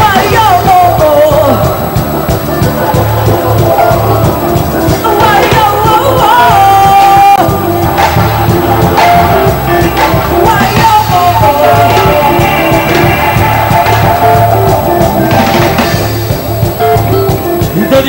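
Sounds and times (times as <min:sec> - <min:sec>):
amplified live band music: 0:00.0 - 0:18.0
person singing: 0:00.0 - 0:18.0.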